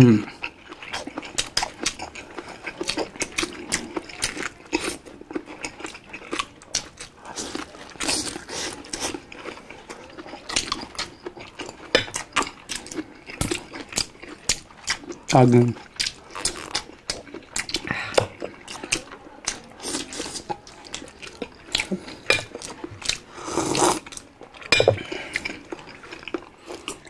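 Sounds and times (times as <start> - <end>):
people chewing and lip-smacking: 0.0 - 27.0.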